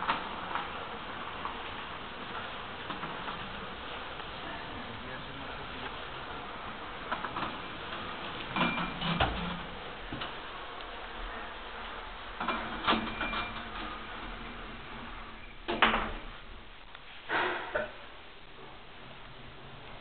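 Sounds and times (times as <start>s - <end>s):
elevator doors sliding: 0.0s - 20.0s
low elevator hum: 0.0s - 20.0s.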